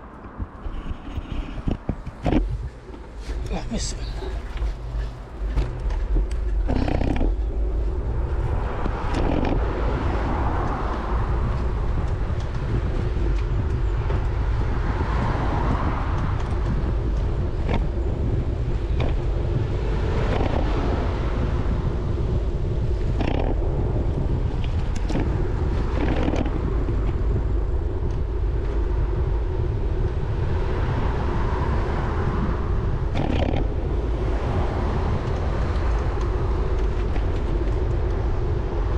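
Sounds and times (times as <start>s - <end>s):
road traffic passing: 0.0s - 38.9s
wind rumbling on microphone: 0.0s - 38.9s.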